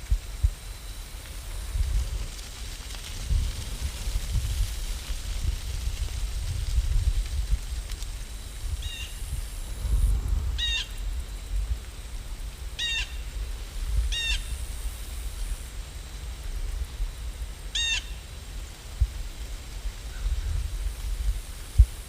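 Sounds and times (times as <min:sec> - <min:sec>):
steady low rumble: 0:00.0 - 0:17.7.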